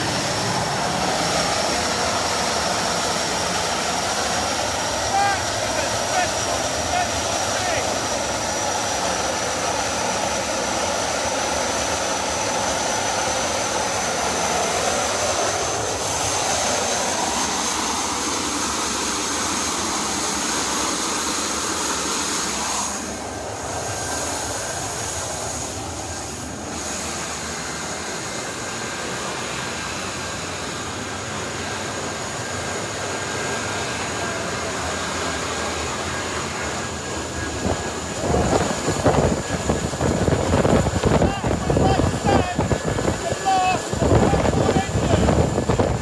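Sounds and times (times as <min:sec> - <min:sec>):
jet engine rushing noise: 0:00.0 - 0:46.0.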